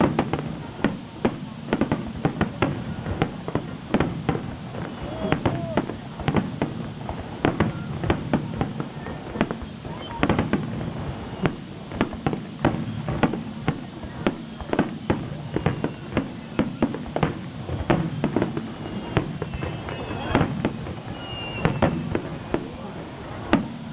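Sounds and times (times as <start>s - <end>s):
fireworks bursting: 0.0s - 23.9s.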